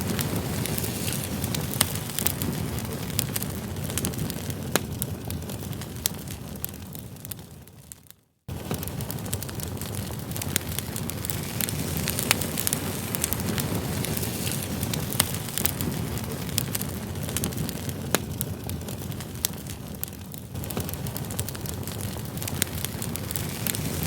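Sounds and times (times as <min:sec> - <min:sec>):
campfire crackling and hissing: 0:00.0 - 0:24.0.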